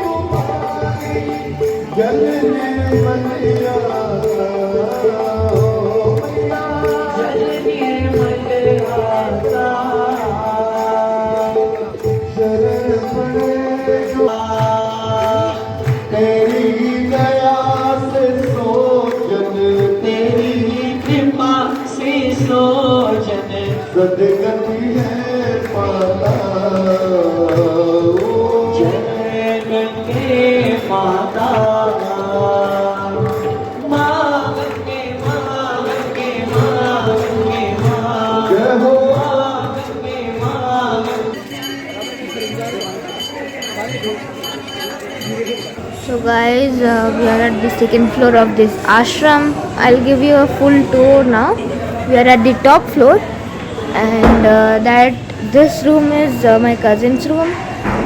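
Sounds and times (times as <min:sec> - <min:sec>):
voices singing a hymn: 0:00.0 - 0:44.0, 0:45.2 - 0:58.0
drum beating: 0:00.0 - 0:58.0.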